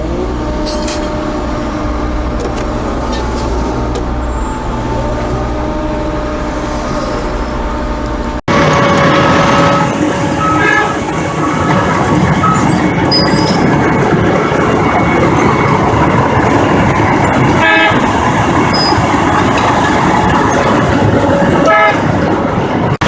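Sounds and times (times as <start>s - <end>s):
excavator diesel engine and hydraulics: 0.0s - 23.0s.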